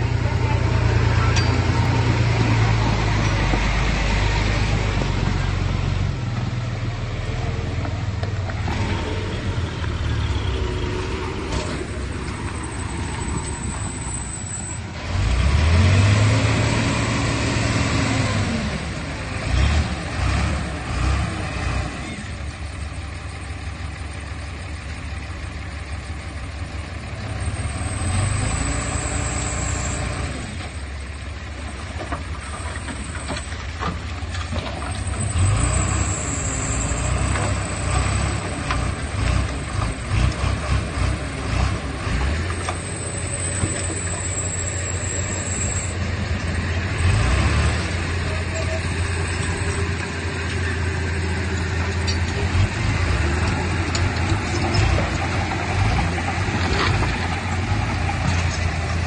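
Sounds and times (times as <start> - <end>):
bulldozer diesel engine revving: 0.0 - 59.0.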